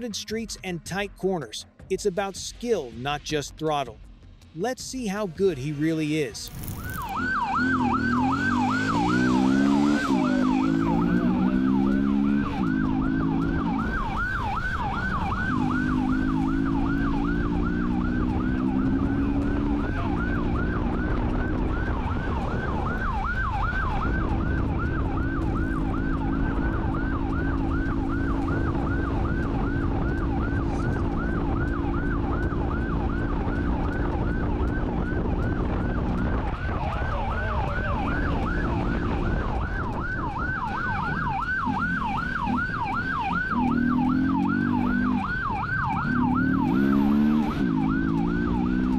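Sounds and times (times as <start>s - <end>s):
motorcycle engine: 6.5s - 48.9s
siren yelping: 6.5s - 48.9s.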